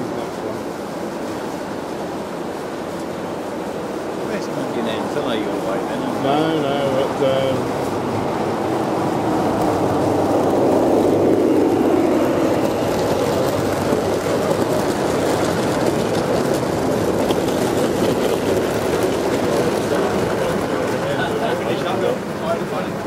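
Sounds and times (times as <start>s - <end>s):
model train wheels rumbling on rails: 0.0s - 23.0s.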